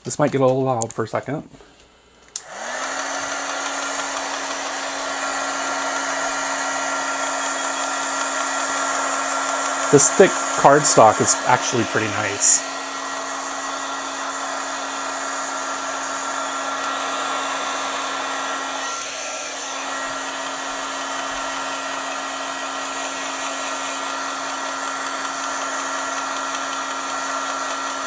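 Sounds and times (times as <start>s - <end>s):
heat gun blowing: 2.4s - 28.0s.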